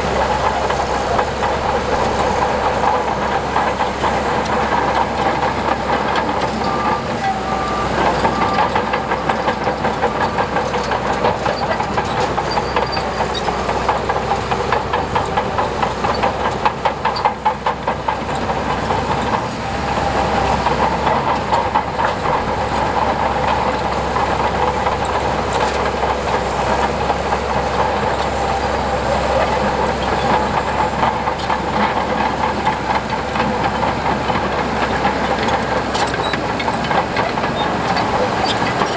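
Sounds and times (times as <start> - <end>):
diesel engine running: 0.0 - 38.9
steel crawler tracks clattering: 0.0 - 38.9.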